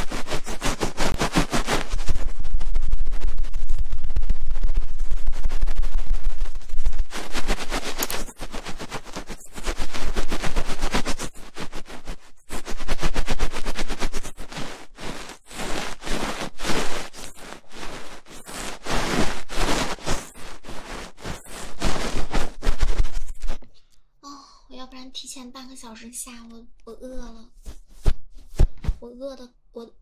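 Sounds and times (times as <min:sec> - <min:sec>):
microphone being rubbed and scratched: 0:00.0 - 0:23.9, 0:25.1 - 0:29.5.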